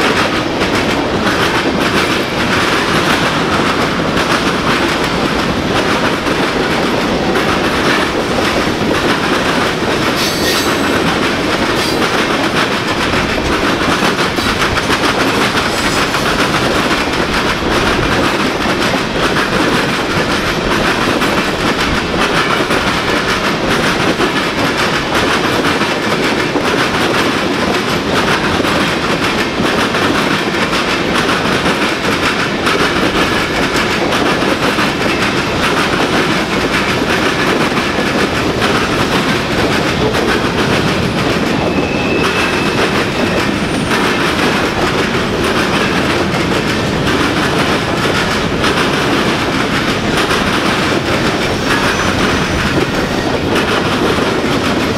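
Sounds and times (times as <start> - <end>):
freight train rumbling: 0.0 - 54.9
wheels clacking over rail joints: 0.0 - 54.9.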